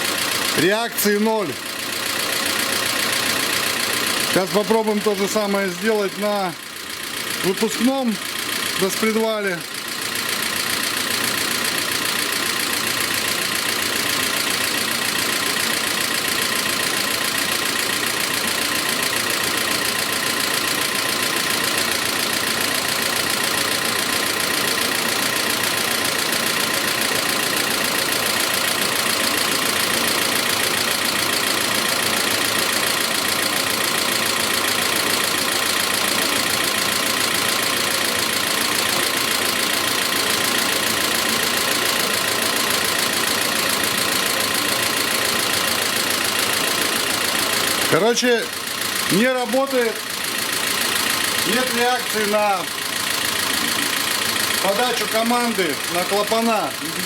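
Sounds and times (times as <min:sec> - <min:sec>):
engine idling with knock: 0:00.0 - 0:57.0.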